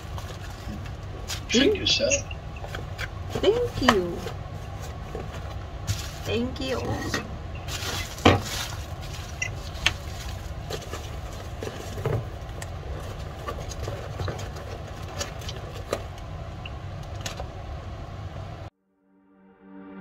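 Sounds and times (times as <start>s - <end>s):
low background rumble: 0.0s - 18.7s.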